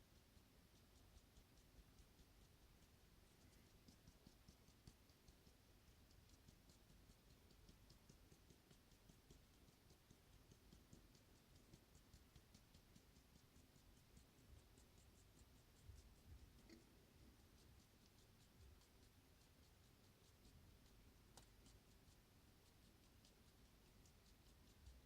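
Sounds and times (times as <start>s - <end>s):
faint light ticking: 0.0s - 25.0s.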